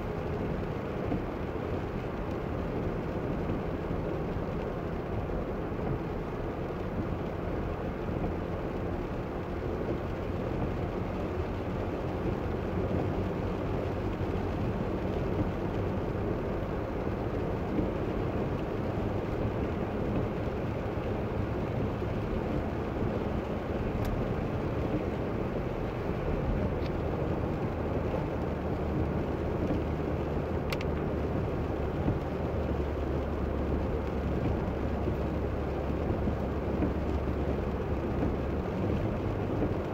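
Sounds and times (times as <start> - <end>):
car engine and cabin hum: 0.1 - 39.9.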